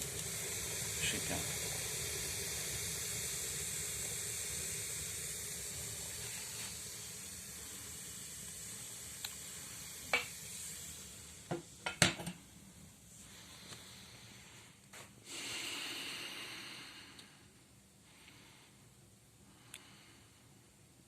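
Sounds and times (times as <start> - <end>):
damp firewood hissing: 0.0 - 18.8.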